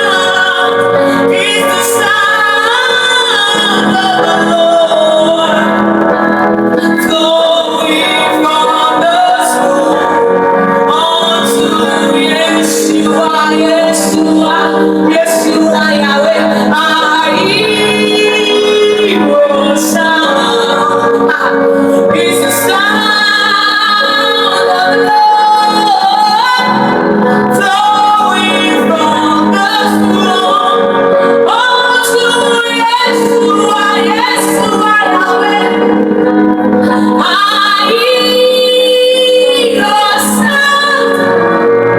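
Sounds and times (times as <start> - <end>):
sustained instrumental chords: 0.0 - 41.9
voices singing worship music: 0.0 - 41.9.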